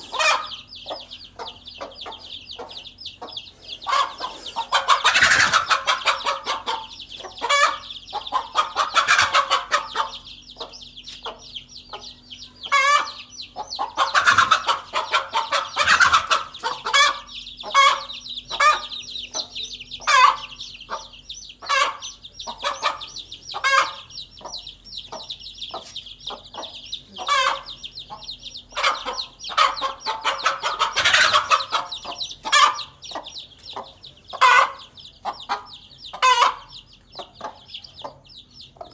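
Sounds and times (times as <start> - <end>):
hen clucking sharply: 0.0 - 38.2.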